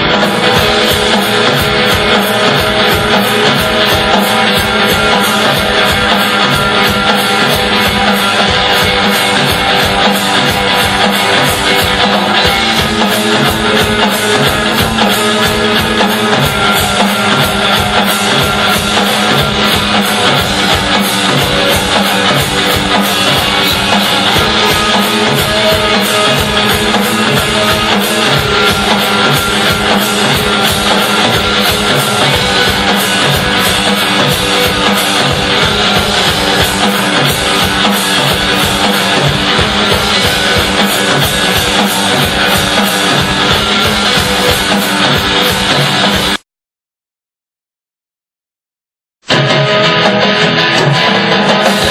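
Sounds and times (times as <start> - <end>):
distorted noise music: 0.0 - 46.4, 49.2 - 51.9.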